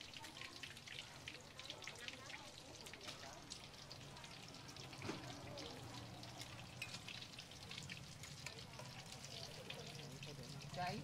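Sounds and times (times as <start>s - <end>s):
eggs deep-frying in oil: 0.0s - 11.0s.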